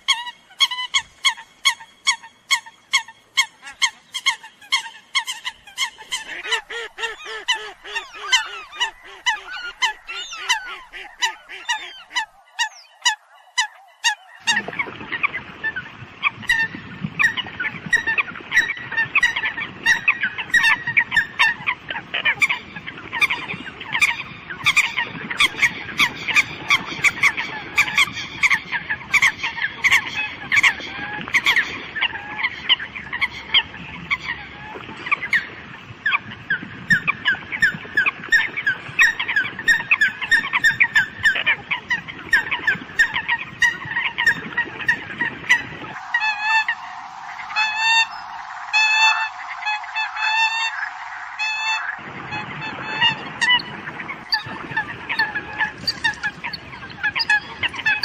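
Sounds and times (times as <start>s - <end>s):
flock of coots calling: 0.0s - 58.0s.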